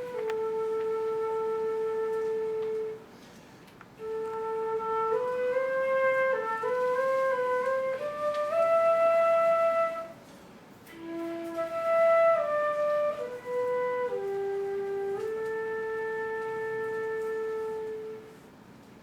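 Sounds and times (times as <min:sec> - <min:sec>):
flute playing slow melody: 0:00.0 - 0:03.3, 0:04.0 - 0:18.6.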